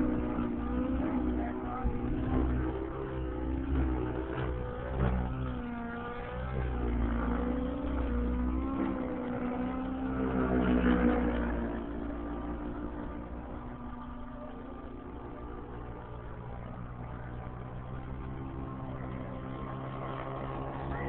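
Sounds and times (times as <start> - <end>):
model helicopter engine and rotor: 0.0 - 21.0.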